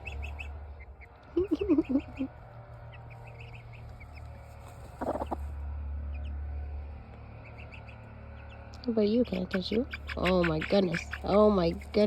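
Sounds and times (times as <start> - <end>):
baby birds peeping: 0.0 - 5.5, 7.0 - 12.0.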